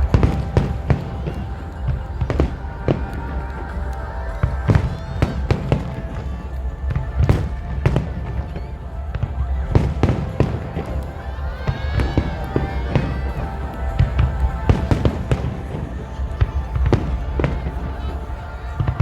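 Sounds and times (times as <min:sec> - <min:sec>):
fireworks banging: 0:00.0 - 0:19.0
music playing: 0:00.0 - 0:19.0.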